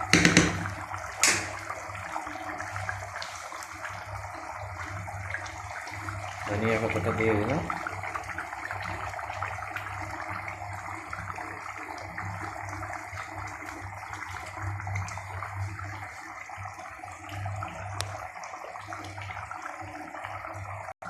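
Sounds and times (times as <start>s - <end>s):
curry bubbling in a pot: 0.0s - 21.0s.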